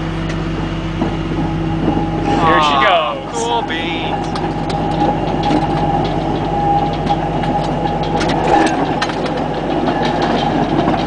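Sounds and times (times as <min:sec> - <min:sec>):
electric locomotive motor hum: 0:00.0 - 0:11.0
steel wheels clicking on rails: 0:00.0 - 0:11.0.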